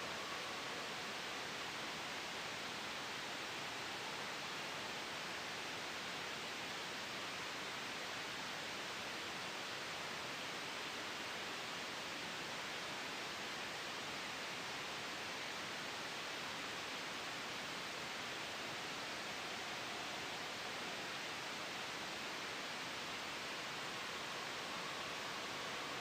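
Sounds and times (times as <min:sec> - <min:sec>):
gentle wind: 0:00.0 - 0:26.0
soft white noise hiss: 0:00.0 - 0:26.0.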